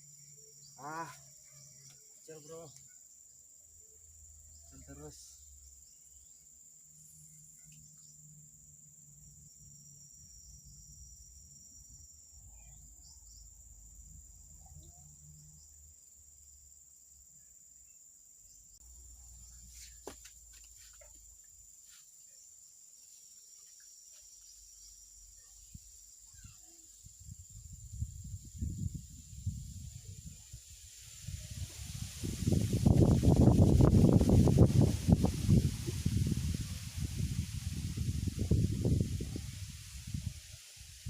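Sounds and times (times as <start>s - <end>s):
high-pitched insect drone: 0.0s - 40.3s.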